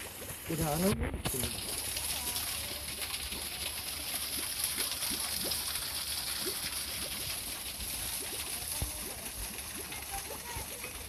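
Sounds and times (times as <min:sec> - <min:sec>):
water running over rocks: 0:00.0 - 0:11.0.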